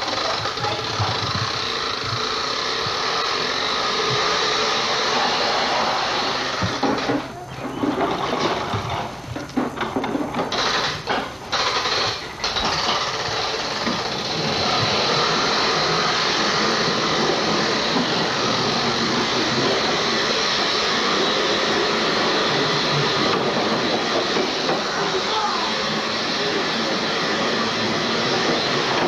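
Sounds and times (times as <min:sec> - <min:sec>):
plastic wheels rolling on concrete: 0:00.0 - 0:29.0.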